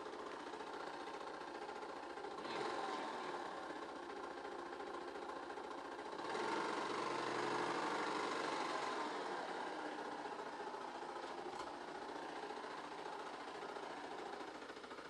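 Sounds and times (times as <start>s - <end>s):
motorcycle engine ticking clatter: 0.0s - 15.0s.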